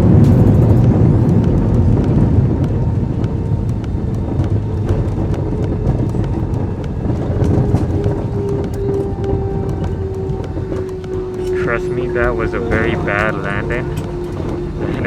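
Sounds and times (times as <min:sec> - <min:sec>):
rumble of aircraft wheels and engines: 0:00.0 - 0:15.0
small clicks and rattles: 0:00.0 - 0:15.0
steady engine whine: 0:00.0 - 0:15.0.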